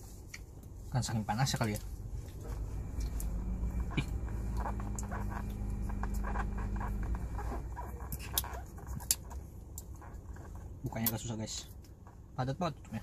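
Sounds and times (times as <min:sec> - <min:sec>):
car cabin hum: 0:00.7 - 0:13.0.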